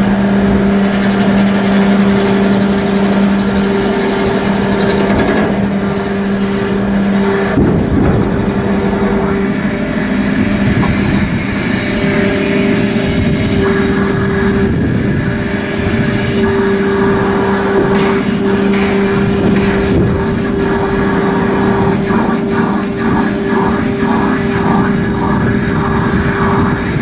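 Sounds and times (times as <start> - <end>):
machinery humming: 0.0 - 27.0.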